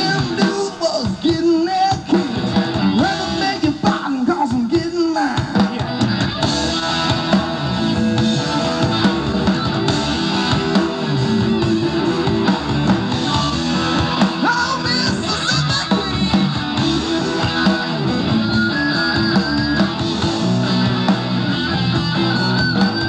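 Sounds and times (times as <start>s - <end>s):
drum kit: 0.0s - 23.0s
electric guitars: 0.0s - 23.0s.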